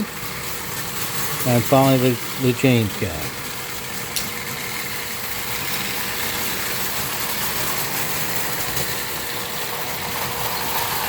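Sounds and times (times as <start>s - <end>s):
toy trains whirring on metal track: 0.0s - 11.0s.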